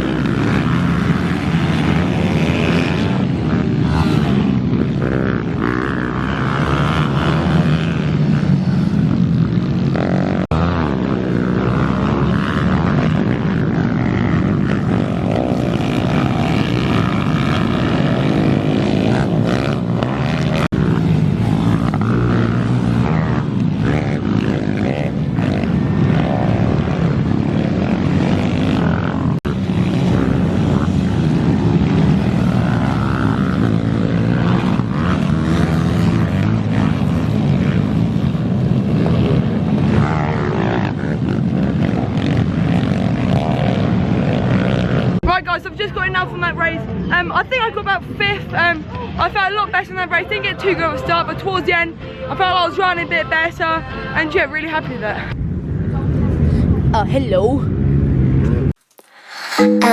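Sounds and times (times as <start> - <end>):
pit bike engines revving: 0.0 - 51.8.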